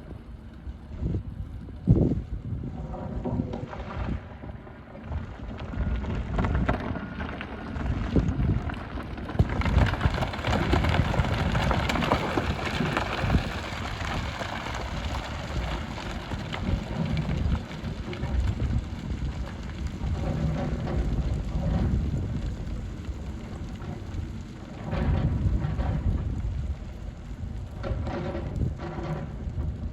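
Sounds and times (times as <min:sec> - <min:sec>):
gravel rattling against bucket: 0:00.8 - 0:29.9.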